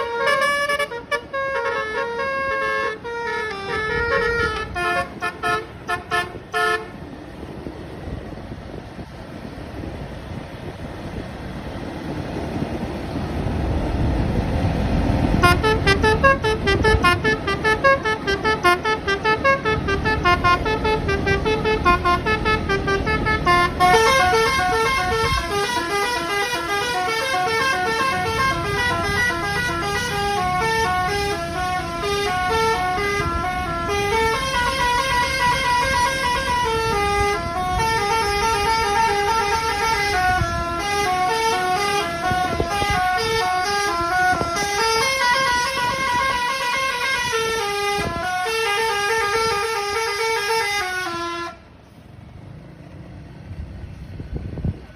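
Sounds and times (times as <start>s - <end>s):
bus horn playing a tune: 0.0s - 7.5s, 15.2s - 52.0s.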